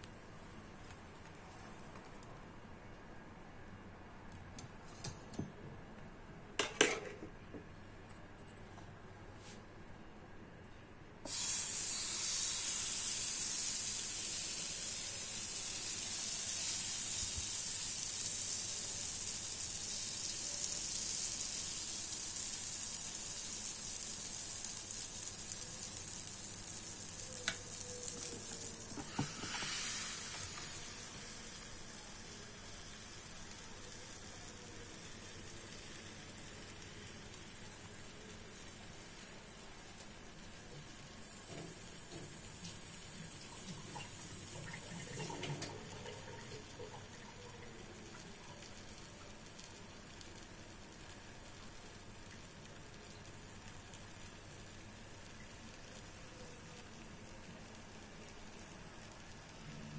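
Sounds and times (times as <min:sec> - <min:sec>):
batter sizzling on hot plate: 0:11.2 - 0:59.9.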